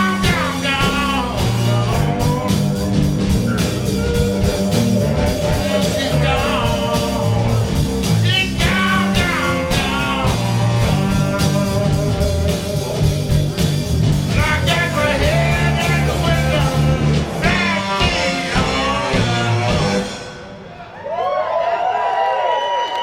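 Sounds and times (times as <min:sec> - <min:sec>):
live rock band playing: 0:00.0 - 0:21.0
pitch-bending lead guitar line: 0:00.0 - 0:21.0.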